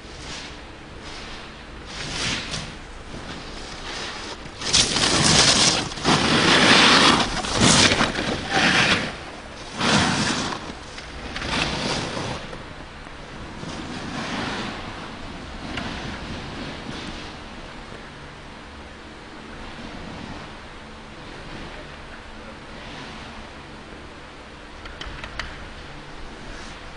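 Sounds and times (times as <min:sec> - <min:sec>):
snowboard scraping over snow: 0:00.0 - 0:24.8, 0:25.6 - 0:26.9.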